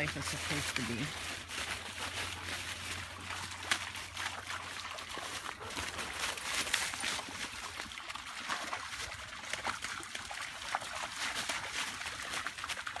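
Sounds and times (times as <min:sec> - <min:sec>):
dogs splashing through water: 0:00.0 - 0:13.0.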